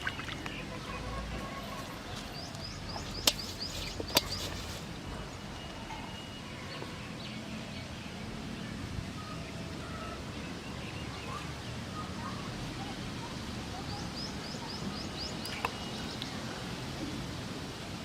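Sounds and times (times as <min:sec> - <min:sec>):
small birds chirping: 0:00.0 - 0:04.9, 0:05.7 - 0:16.5
steady background noise: 0:00.0 - 0:18.0.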